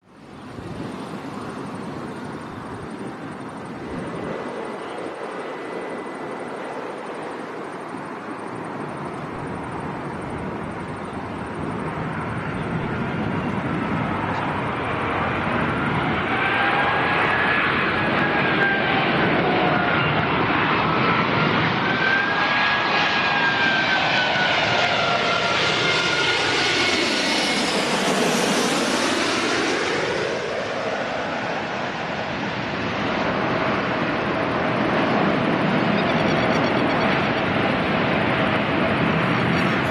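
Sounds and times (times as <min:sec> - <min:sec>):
jet engines whining and rumbling: 0:00.0 - 0:39.9.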